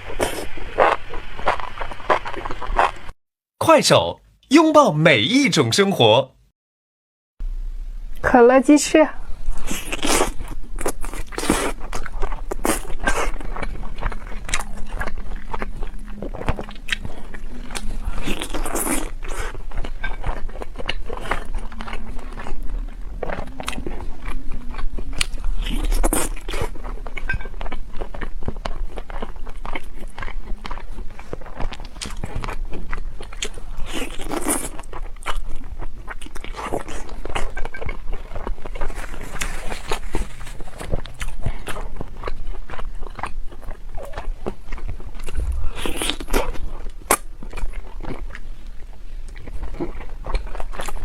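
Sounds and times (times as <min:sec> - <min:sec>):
person biting and chewing: 0:00.0 - 0:03.1, 0:09.6 - 0:51.0.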